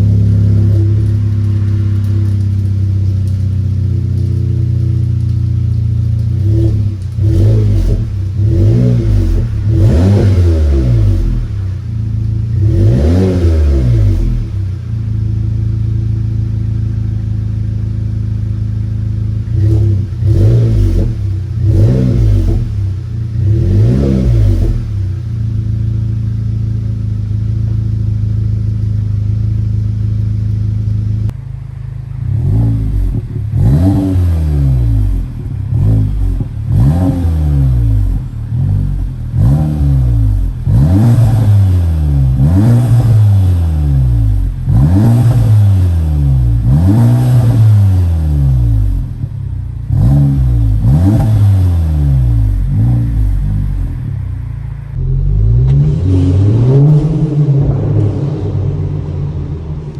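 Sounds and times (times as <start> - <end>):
engine revving: 0.0 - 31.4, 32.0 - 59.9
car engine idling: 0.0 - 59.9.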